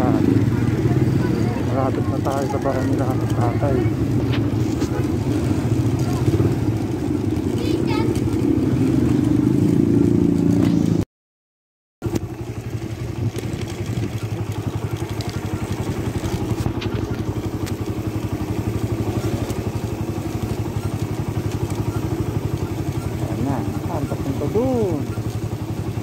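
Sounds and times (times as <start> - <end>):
motorcycle engine running: 0.0 - 11.0, 12.0 - 26.0.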